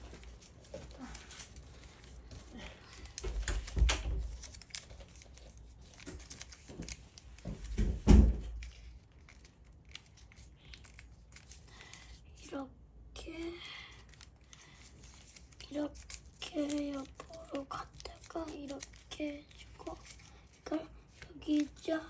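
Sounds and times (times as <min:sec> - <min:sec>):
paper crinkling and rustling: 0:00.0 - 0:12.2, 0:13.8 - 0:22.0.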